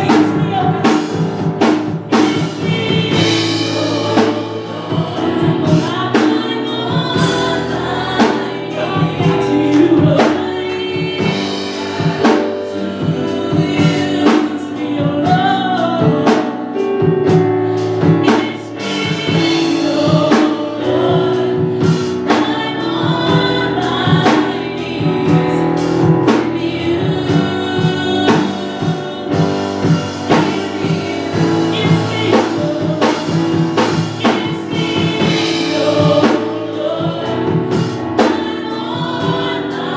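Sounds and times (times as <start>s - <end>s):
band playing: 0.0s - 39.9s
drum kit beat: 0.0s - 39.9s
gospel singers: 0.0s - 39.9s.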